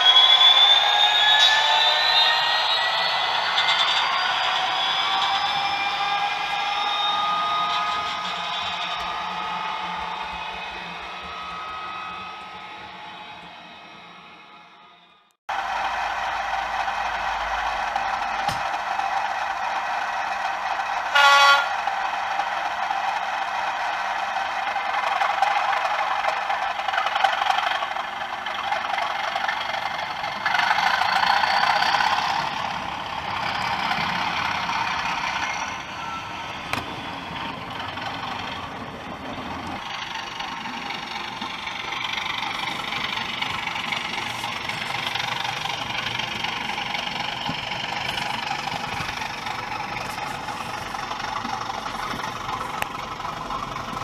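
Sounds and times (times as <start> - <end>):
diesel engine sound through small speaker: 0.0 - 23.2, 24.4 - 54.0.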